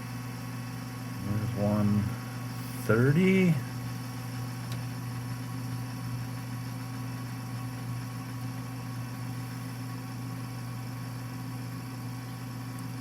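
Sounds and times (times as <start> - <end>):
toaster oven humming: 0.0 - 13.0.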